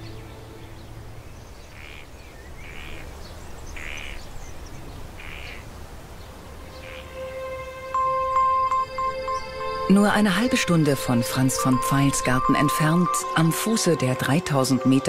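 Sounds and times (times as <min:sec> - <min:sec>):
low outdoor ambience: 0:00.0 - 0:15.0.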